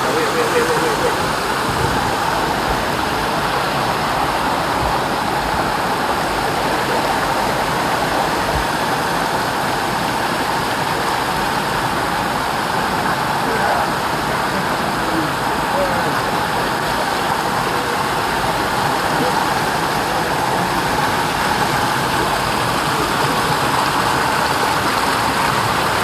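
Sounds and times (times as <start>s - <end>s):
water rushing in rocky river: 0.0s - 26.0s
waterfall: 0.0s - 26.0s.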